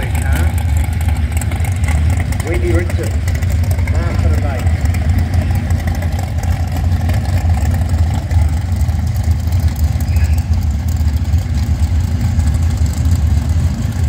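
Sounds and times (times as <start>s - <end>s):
drag car engines idling: 0.0s - 14.0s.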